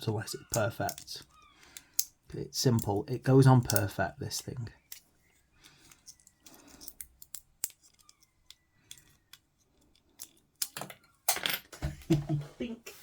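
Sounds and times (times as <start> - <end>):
small plastic parts clicking: 0.4 - 11.4.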